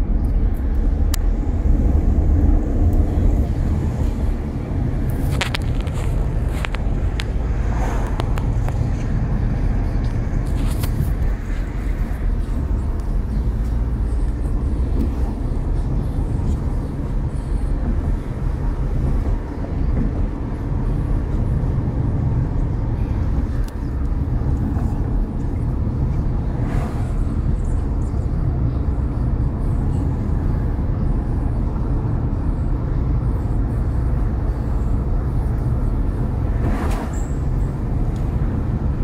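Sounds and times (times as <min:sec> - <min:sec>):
engine and tyre rumble: 0:00.0 - 0:39.0.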